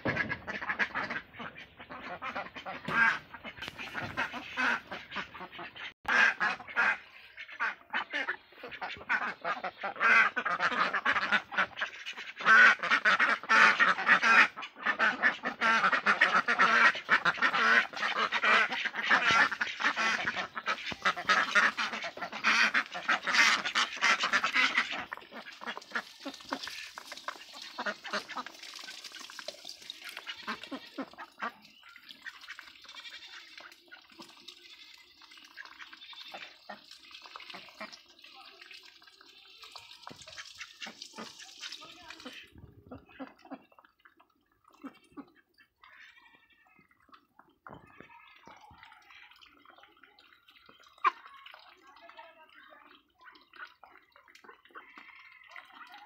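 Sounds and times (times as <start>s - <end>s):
ducks quacking: 0.0s - 56.0s.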